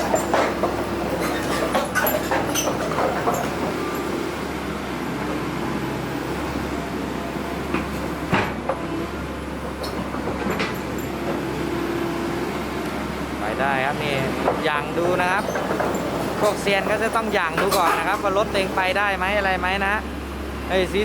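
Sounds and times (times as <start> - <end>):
diesel engines running under load: 0.0 - 21.0.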